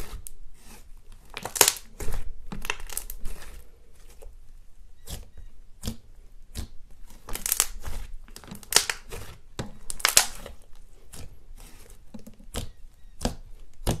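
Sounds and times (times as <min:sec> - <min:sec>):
slime squishing crackles: 0:00.0 - 0:14.0.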